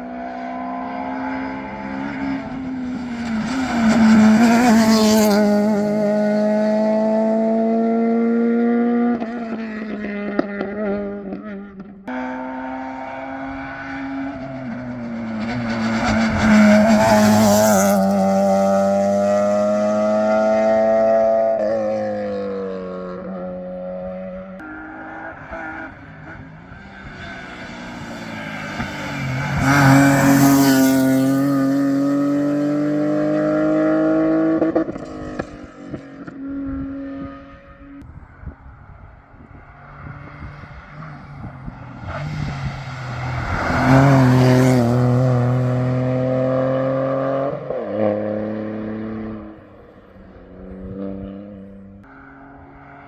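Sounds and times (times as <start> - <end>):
rally cars passing at speed: 0.0 - 53.0.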